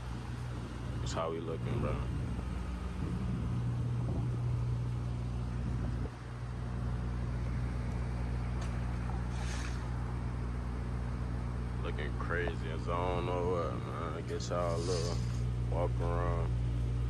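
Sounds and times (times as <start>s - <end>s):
car exhaust idling deep drone: 0.0s - 17.0s.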